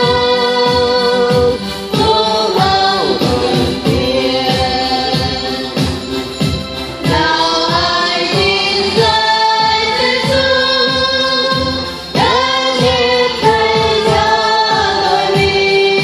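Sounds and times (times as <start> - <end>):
women's choir singing a hymn: 0.0 - 6.1, 7.0 - 16.0
accompaniment with low beat: 0.0 - 16.0.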